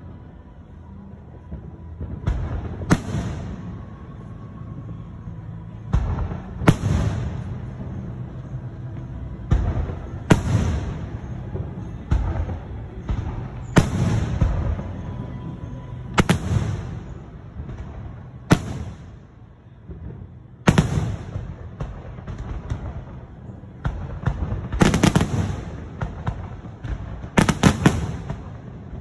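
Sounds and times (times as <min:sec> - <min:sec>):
dull fireworks boom: 0:00.0 - 0:29.0
fireworks bursting bangs: 0:00.9 - 0:29.0.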